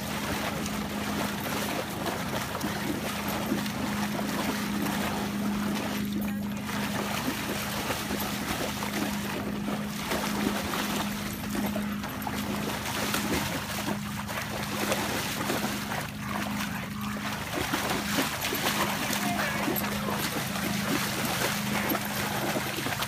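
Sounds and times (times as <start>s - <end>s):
dog splashing through water: 0.0s - 23.0s
steady low hum: 0.0s - 23.0s.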